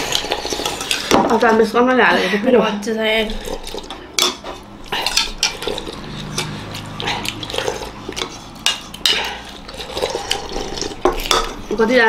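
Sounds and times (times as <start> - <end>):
cutlery clinking on bowls: 0.0 - 1.6, 3.5 - 11.8.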